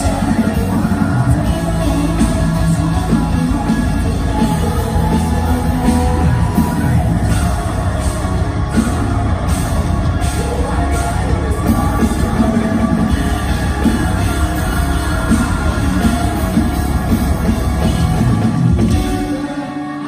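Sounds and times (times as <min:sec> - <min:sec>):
metalcore band playing live: 0:00.0 - 0:20.0.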